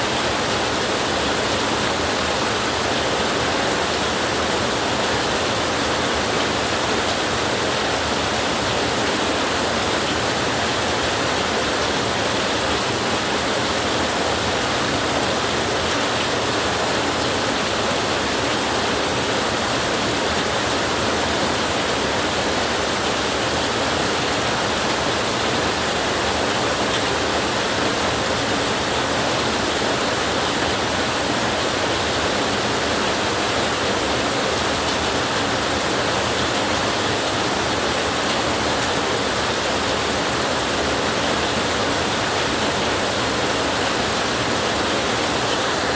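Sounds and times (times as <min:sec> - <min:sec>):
heavy rain hissing: 0:00.0 - 0:45.9.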